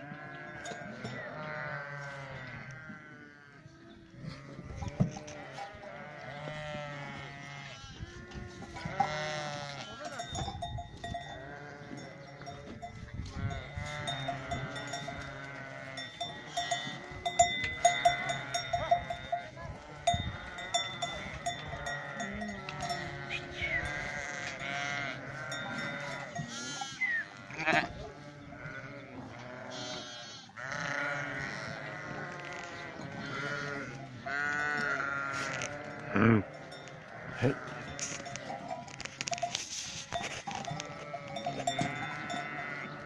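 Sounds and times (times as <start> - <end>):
sheep bleating: 0.0 - 43.0.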